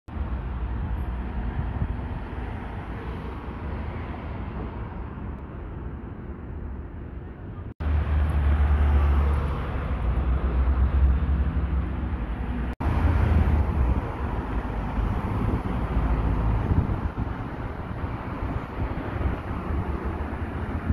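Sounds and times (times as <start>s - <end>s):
tram rumbling with low hum: 0.1s - 20.9s.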